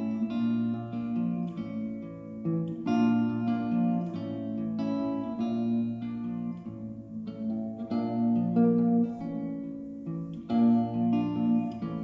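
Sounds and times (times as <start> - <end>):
electric guitar picked chords: 0.0 - 12.0.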